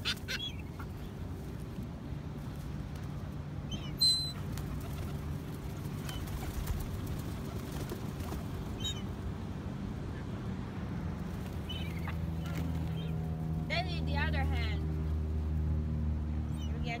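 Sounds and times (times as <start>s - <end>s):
steady low background hum: 0.0s - 17.0s.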